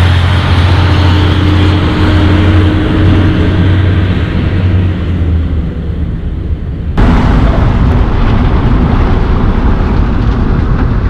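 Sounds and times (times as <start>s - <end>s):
truck diesel engine drone: 0.0s - 11.0s.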